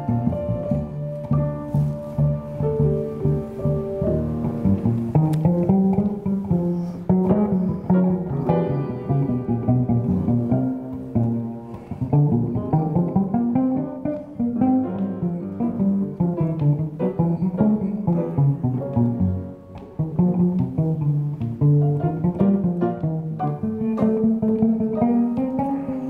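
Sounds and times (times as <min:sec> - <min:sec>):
low string instruments playing: 0:00.0 - 0:26.0.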